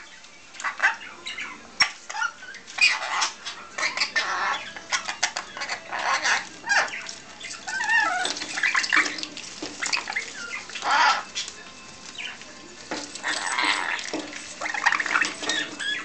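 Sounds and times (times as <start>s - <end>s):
parrot chattering raspy calls: 0.6s - 11.5s, 13.2s - 16.0s.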